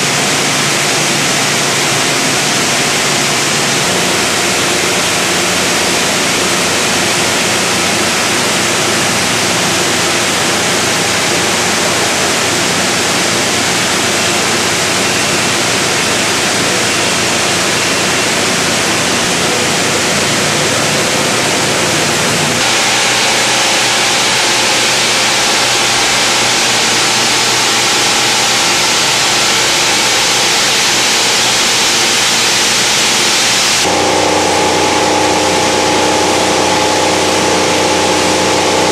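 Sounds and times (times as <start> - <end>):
machine hum tones: 0.0 - 38.9
machinery rushing noise: 0.0 - 38.9.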